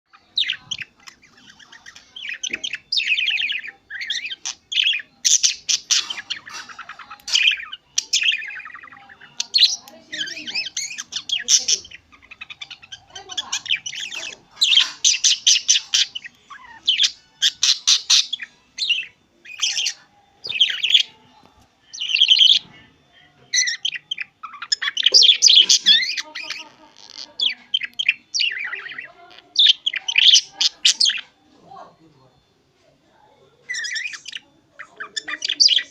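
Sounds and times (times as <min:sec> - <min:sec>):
budgerigar chirping and chattering: 0:00.1 - 0:21.2, 0:21.9 - 0:31.4, 0:33.6 - 0:35.9.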